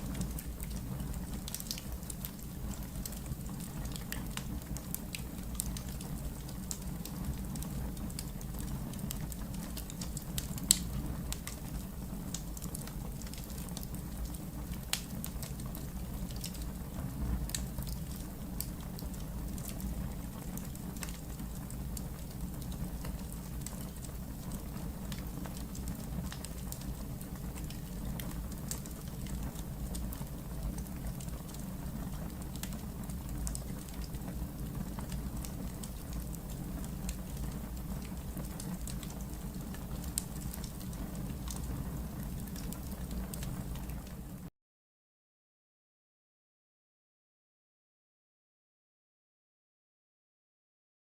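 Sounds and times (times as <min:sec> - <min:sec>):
wood fire crackling and popping: 0:00.0 - 0:44.5.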